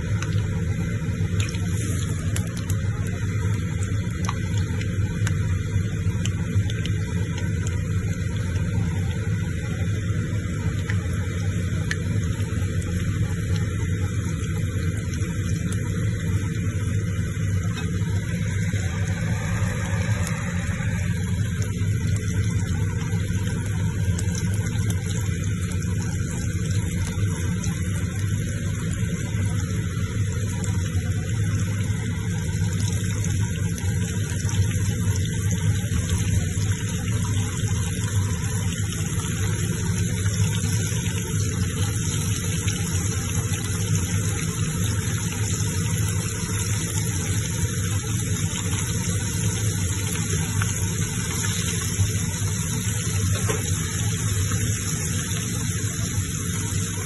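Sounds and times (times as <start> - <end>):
oil sizzling while deep-frying: 0.0 - 57.0
steady low hum: 0.0 - 57.0.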